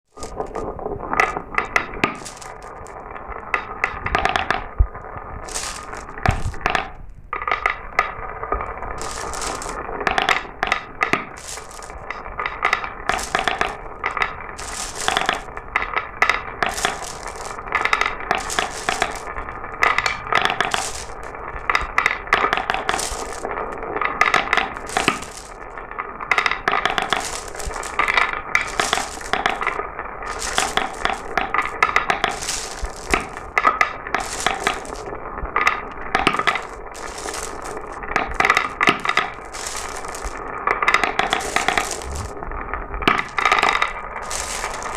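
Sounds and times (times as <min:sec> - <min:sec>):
glass marbles clattering: 0:00.1 - 0:04.6, 0:05.4 - 0:07.7, 0:08.8 - 0:15.6, 0:16.3 - 0:25.8, 0:26.4 - 0:42.3, 0:43.0 - 0:44.9.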